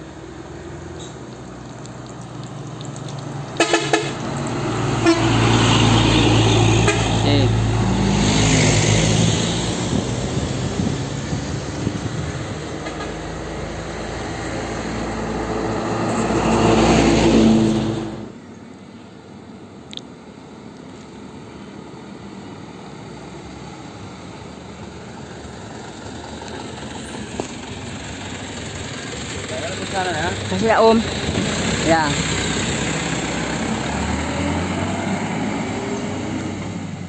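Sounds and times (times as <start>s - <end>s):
vehicle engine approaching: 0.0s - 18.5s, 20.9s - 37.0s
quiet traffic noise: 0.0s - 37.0s
trucks driving past: 0.0s - 37.0s.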